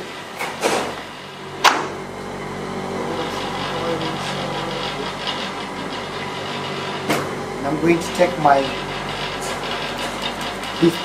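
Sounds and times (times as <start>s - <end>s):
kitchen equipment humming: 0.0s - 11.0s.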